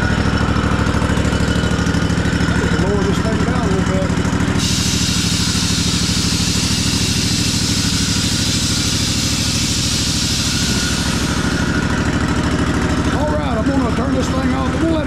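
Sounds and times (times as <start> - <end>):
mower engine running: 0.0 - 15.0.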